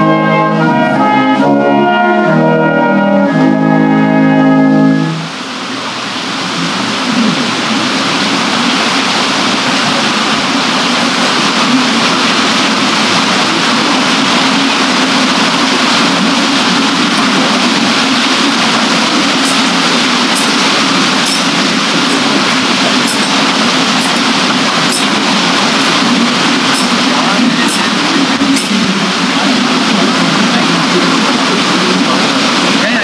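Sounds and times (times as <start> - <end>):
water rushing at a water wheel: 0.0 - 33.0.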